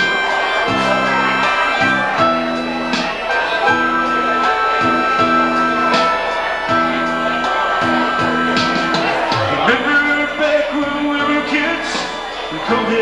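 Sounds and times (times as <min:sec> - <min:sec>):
keyboard playing chords: 0:00.0 - 0:13.0.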